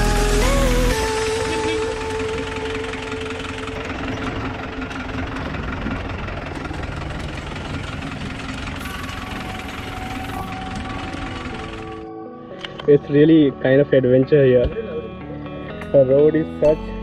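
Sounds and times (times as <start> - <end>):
jeep engine rumble: 0.0 - 17.0.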